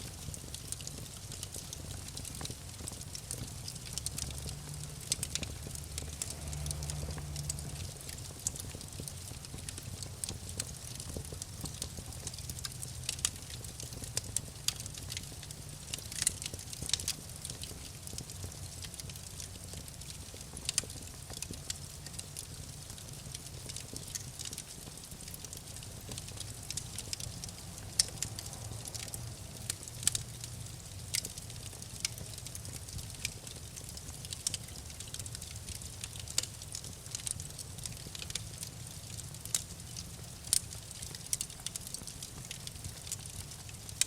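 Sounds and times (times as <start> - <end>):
wood fire crackling in fireplace: 0.0 - 44.0.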